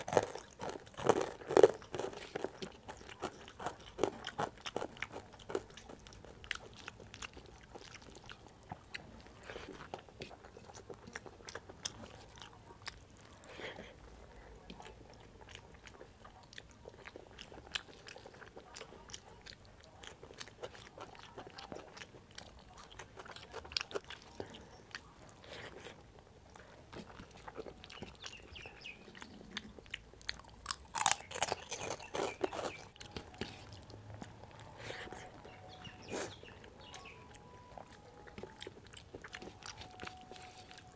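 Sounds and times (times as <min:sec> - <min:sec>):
chewing with wet mouth clicks: 0:00.0 - 0:40.9.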